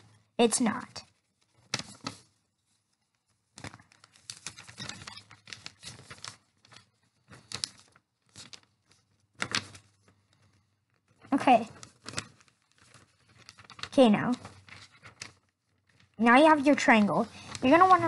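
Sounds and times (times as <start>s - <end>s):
paper rustling and crinkling: 0.0s - 18.0s.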